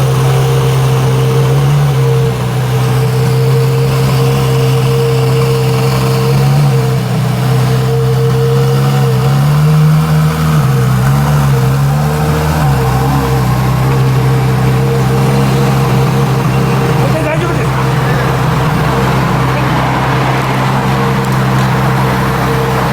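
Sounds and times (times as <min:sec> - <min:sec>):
sports car engine idling: 0:00.0 - 0:22.9.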